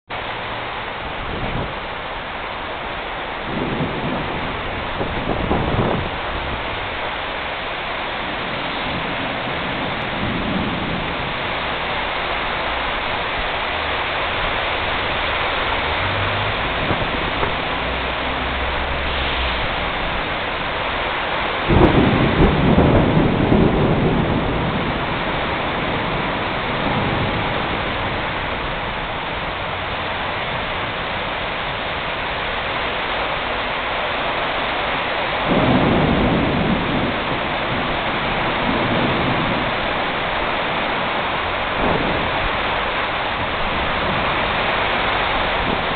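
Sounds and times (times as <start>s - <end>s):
steady rain falling: 0.0s - 45.9s
thunder claps rumbling: 0.2s - 45.9s.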